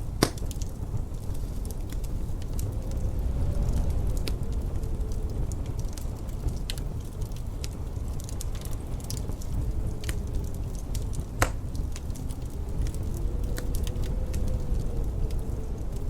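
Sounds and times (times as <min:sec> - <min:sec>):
wind howling: 0:00.0 - 0:16.0
wood fire crackling: 0:00.0 - 0:16.0.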